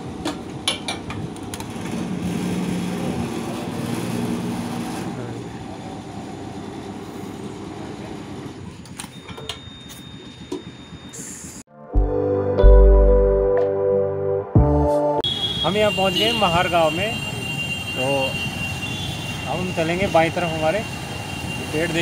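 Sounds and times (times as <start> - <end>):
traffic noise: 0.0 - 11.7, 15.2 - 22.0.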